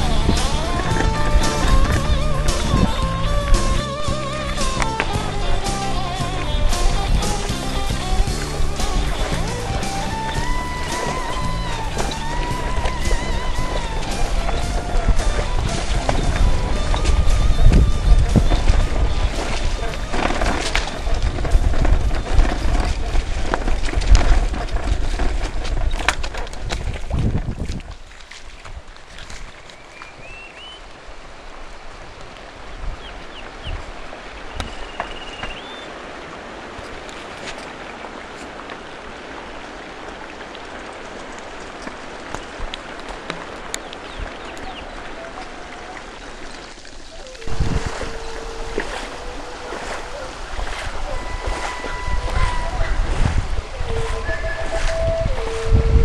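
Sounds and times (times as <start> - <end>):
footsteps: 0.0 - 30.1, 40.0 - 56.0
stream rushing over rocks: 0.0 - 56.0
wind buffeting microphone: 0.0 - 56.0.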